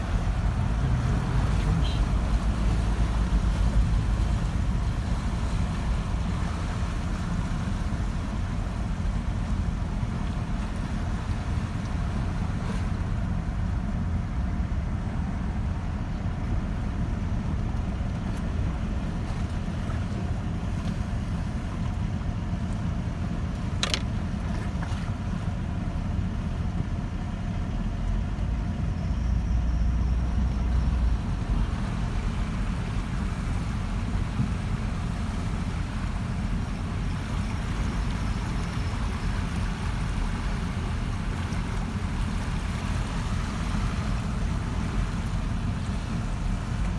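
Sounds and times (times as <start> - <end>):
car driving through water: 0.0 - 46.9.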